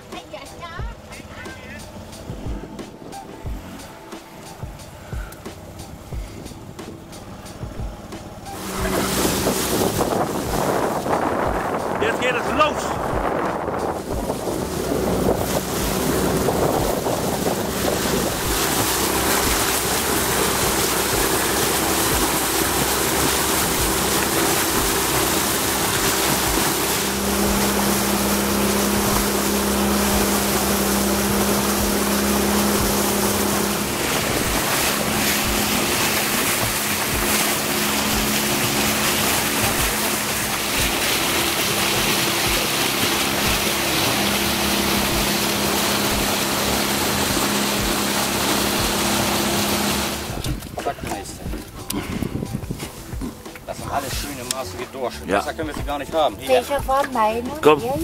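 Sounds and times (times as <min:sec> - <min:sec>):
boat motor running: 0:00.0 - 0:58.0
water rushing past hull: 0:00.0 - 0:58.0
wind buffeting microphone: 0:04.5 - 0:54.5.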